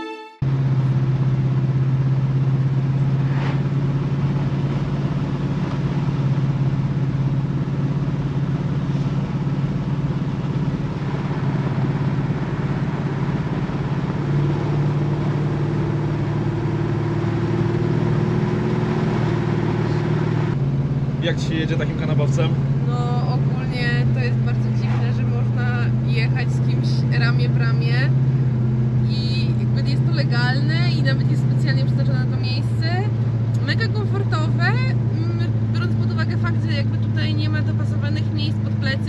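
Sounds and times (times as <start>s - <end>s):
car engine droning in cabin: 0.4s - 39.0s.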